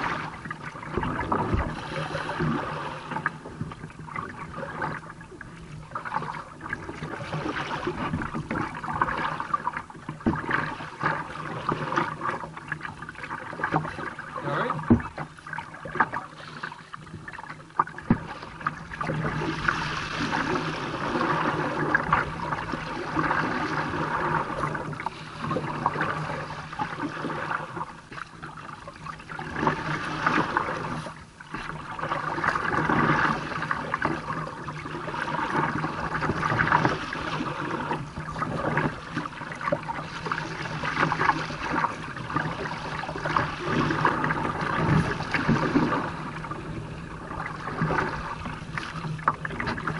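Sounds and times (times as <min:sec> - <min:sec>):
water slapping against kayak hull: 0:00.0 - 0:49.9.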